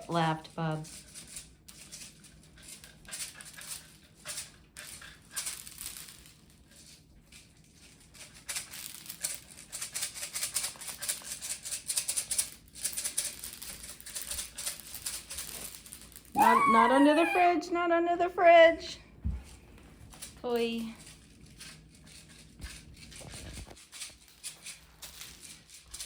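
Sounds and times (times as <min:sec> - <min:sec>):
small clay pieces rattling on floor: 0:00.0 - 0:17.0, 0:20.1 - 0:26.0.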